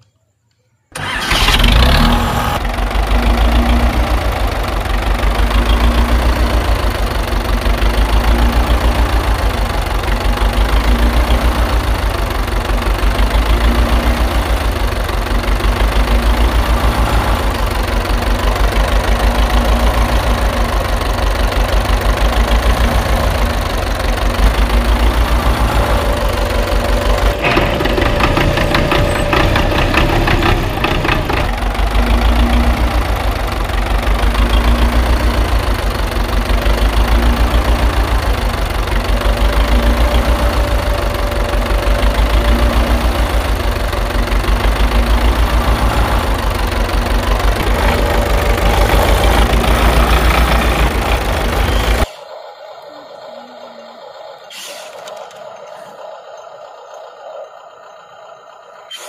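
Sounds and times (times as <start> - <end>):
engine clatter: 1.0 - 52.1
diesel engine idling: 1.0 - 59.0.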